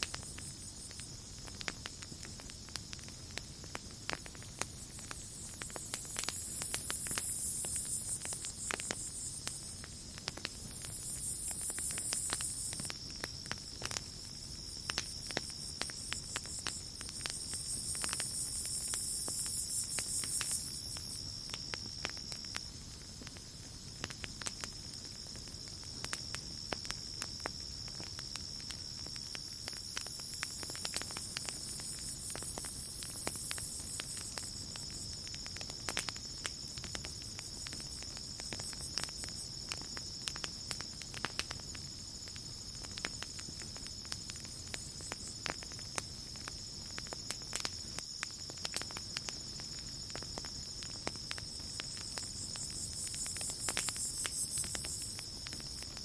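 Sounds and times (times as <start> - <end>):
campfire crackling and popping: 0.0 - 56.0
chorus of night insects: 0.0 - 56.0
pulsing insect trill: 4.3 - 24.0, 24.6 - 56.0.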